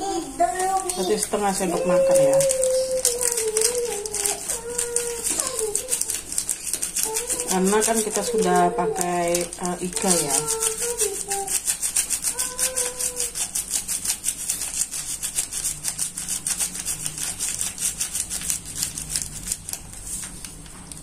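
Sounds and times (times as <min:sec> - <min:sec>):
seasoning shaken from sachet: 0:00.0 - 0:21.0.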